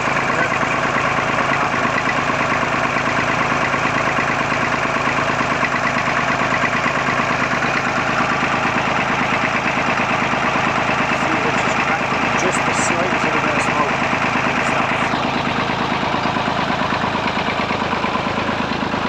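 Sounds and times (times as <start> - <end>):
diesel engine idling with knock: 0.0 - 19.0.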